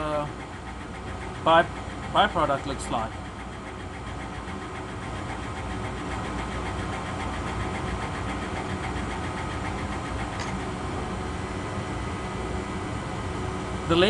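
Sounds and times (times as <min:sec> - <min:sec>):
laser cutter humming: 0:00.0 - 0:14.0.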